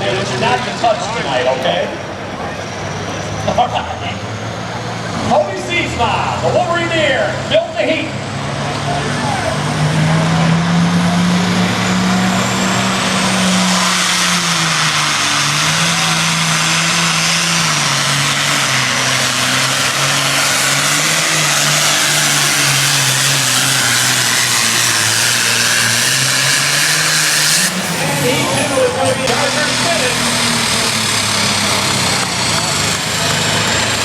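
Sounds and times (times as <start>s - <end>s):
engine at full throttle: 0.0s - 34.0s.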